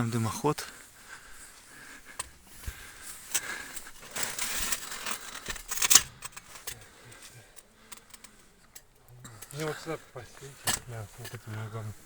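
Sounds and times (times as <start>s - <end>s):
rustling and scraping of pipe: 0.6s - 12.0s.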